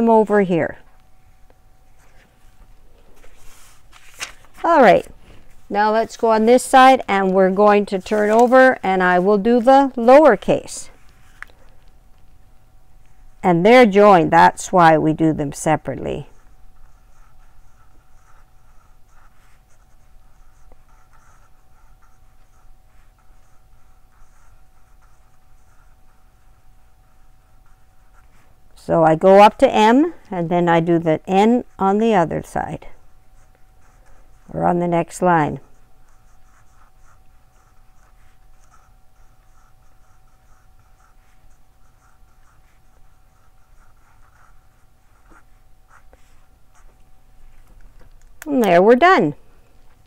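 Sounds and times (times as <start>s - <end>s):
pencil scratching on paper: 4.6s - 11.4s, 13.1s - 47.0s.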